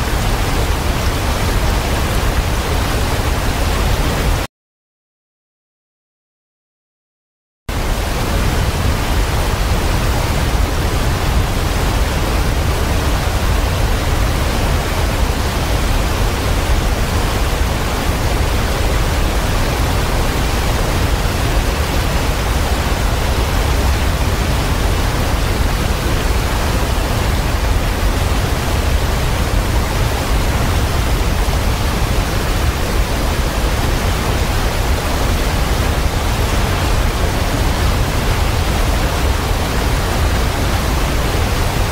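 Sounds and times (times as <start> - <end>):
waterfall rushing: 0.0 - 4.5, 7.7 - 41.9.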